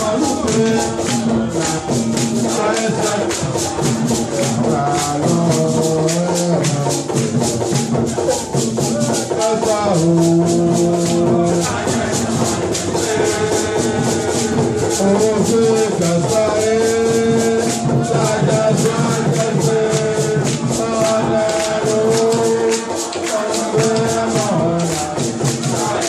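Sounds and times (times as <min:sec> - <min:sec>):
man chanting into microphone: 0:00.0 - 0:07.4, 0:08.8 - 0:26.0
shaker rattles: 0:00.0 - 0:26.0.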